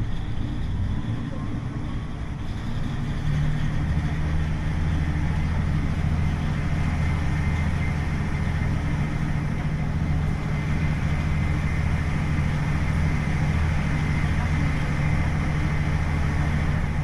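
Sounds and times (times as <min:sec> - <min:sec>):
diesel engine low drone: 0:00.0 - 0:17.0
railcar in motion: 0:00.0 - 0:17.0.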